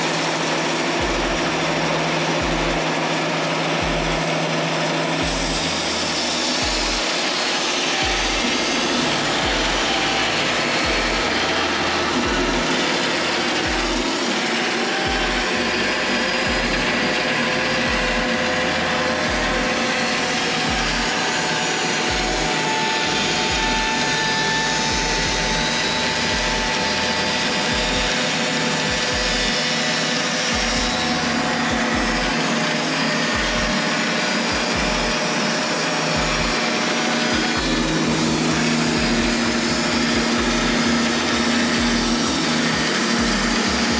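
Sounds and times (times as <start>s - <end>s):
band sawmill whirring: 0.0s - 43.9s.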